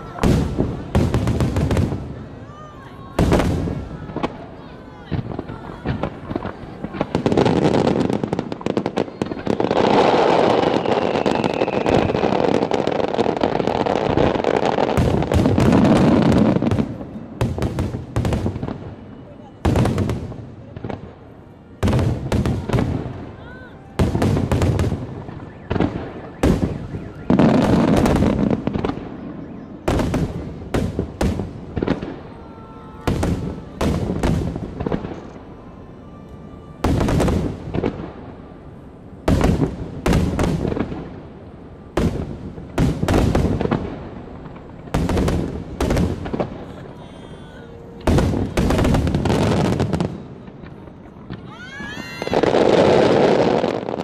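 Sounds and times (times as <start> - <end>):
rising firework whistles: 0.0 - 20.2, 21.8 - 38.6, 44.4 - 54.0
fireworks bursting with bangs: 0.0 - 54.0.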